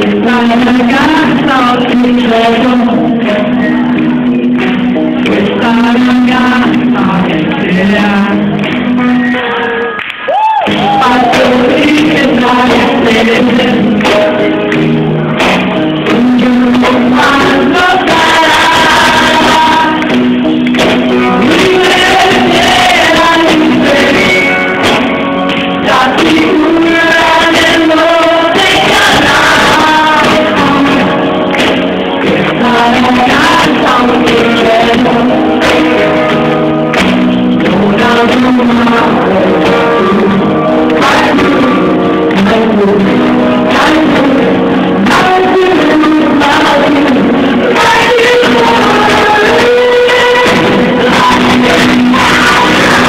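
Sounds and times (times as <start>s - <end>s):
live pop band playing: 0.0s - 53.0s
woman singing lead: 0.0s - 53.0s.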